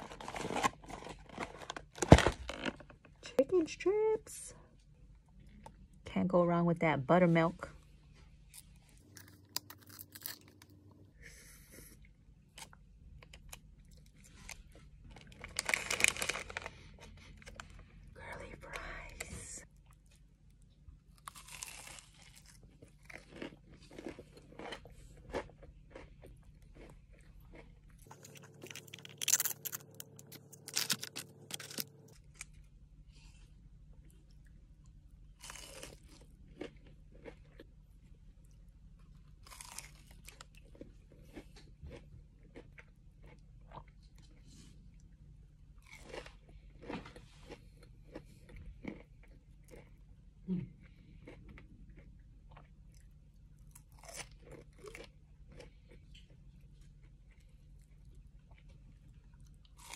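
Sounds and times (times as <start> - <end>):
crunchy chewing of fried chicken: 8.2 - 18.8, 19.7 - 59.9.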